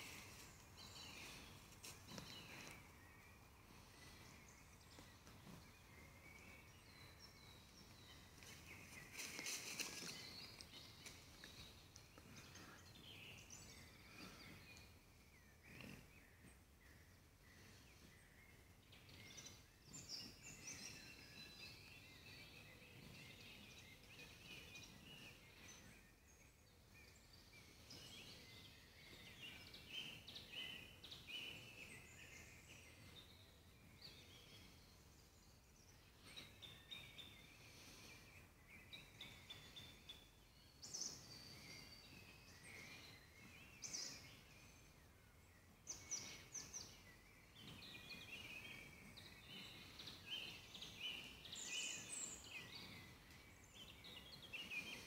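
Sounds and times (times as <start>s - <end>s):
small birds chirping and trilling: 0.0s - 55.0s.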